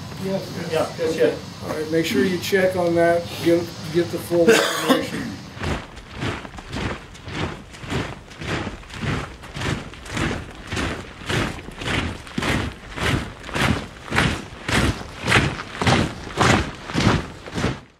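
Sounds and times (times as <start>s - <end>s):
rhythmic whooshing: 0.0s - 17.9s.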